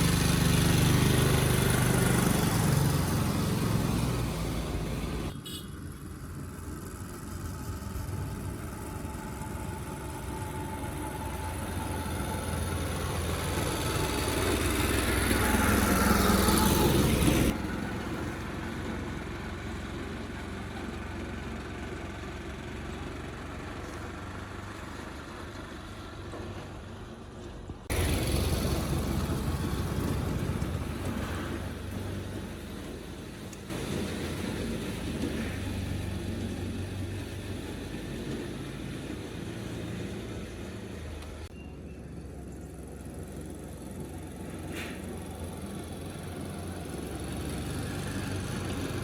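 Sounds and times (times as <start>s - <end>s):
vehicle engine revving: 0.0s - 5.4s, 6.3s - 41.5s, 42.9s - 49.0s
quiet engine hum: 0.0s - 49.0s.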